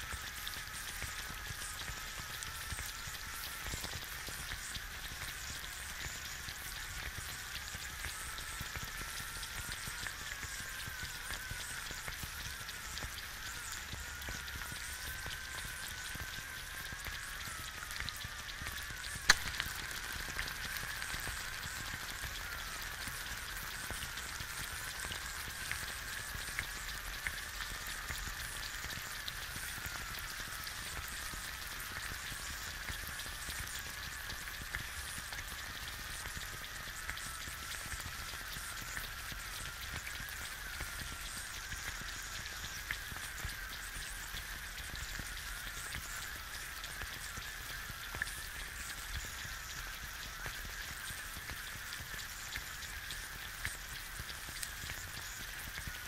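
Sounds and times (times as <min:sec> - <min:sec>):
egg sizzling in a pan: 0:00.0 - 0:56.0.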